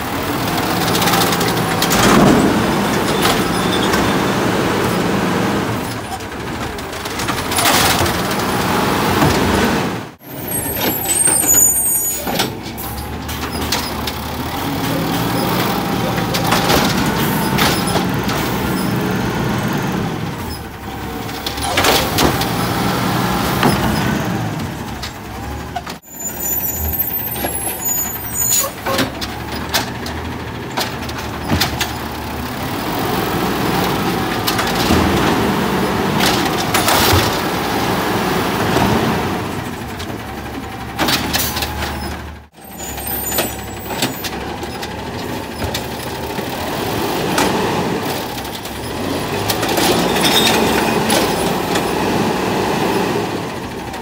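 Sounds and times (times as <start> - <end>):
carts knocking and clanking: 0.0 - 10.0, 10.6 - 26.0, 26.6 - 54.0
diesel engine revving: 0.0 - 54.0.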